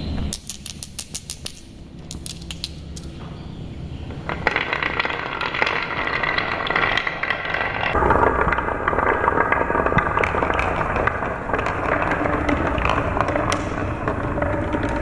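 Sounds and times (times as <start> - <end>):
marbles clicking: 0.3 - 3.2, 4.1 - 15.0
marbles rolling on tracks: 0.4 - 3.2, 4.0 - 15.0.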